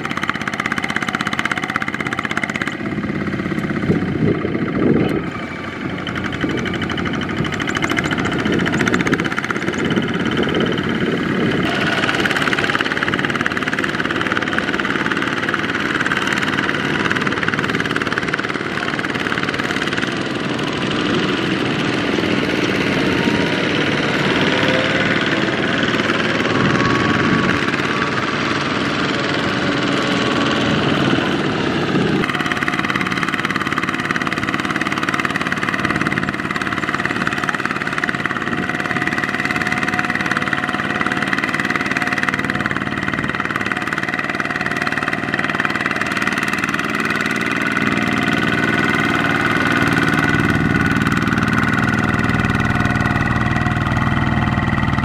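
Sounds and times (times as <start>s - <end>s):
diesel tiller engine running: 0.0s - 55.0s.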